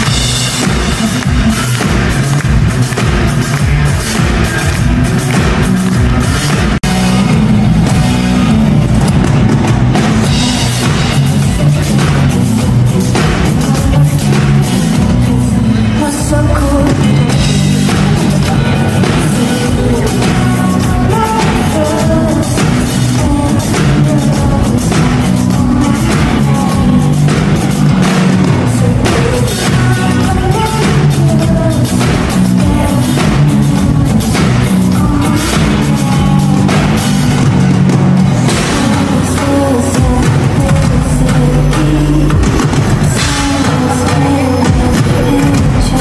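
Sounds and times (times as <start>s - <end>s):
drum kit beat: 0.0s - 46.0s
heavy bass: 0.0s - 46.0s
person singing: 0.0s - 46.0s.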